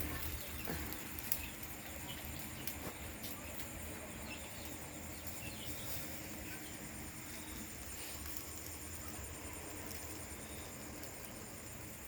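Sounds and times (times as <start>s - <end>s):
faint bird chirps: 0.0s - 11.7s.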